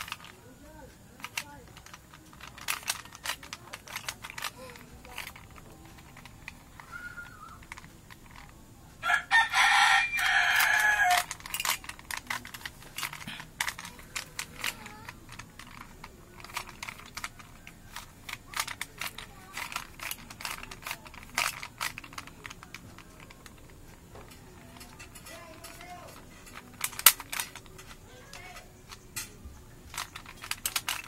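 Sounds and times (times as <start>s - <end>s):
plastic puzzle cube clicking: 0.0s - 0.4s, 1.2s - 31.0s.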